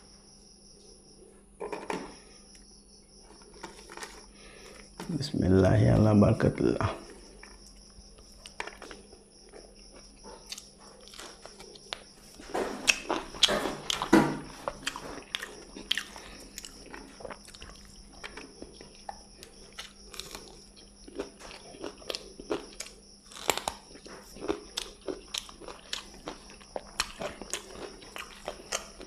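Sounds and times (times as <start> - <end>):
person eating crunchy food: 3.2 - 5.2, 7.0 - 29.0.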